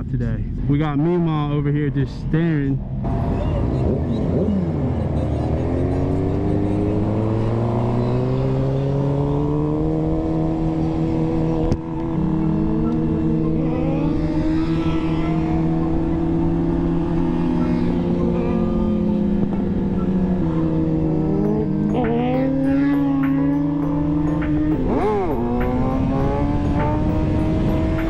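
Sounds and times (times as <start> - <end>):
motorcycle engine: 2.8 - 28.0.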